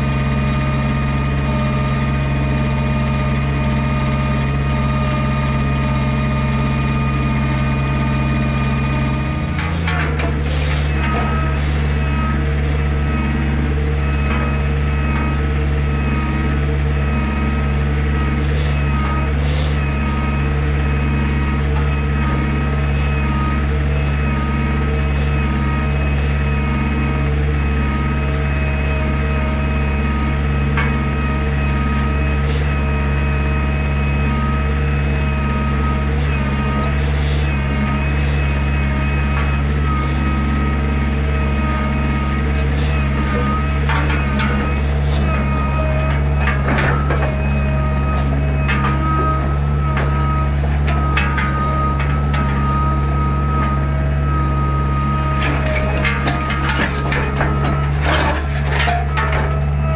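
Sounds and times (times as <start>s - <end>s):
skid steer engine running: 0.0s - 59.9s.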